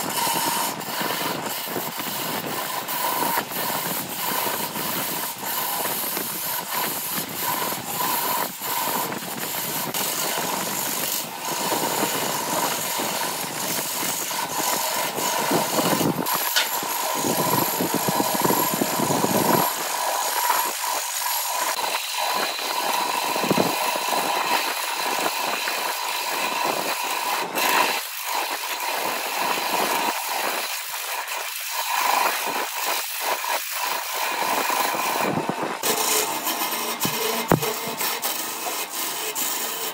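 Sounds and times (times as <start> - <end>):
wood lathe whine: 0.0 - 39.9.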